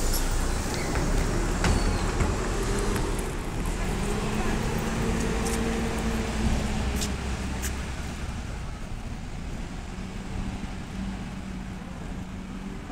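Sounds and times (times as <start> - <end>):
bus engine rumble driving away: 0.0 - 12.9.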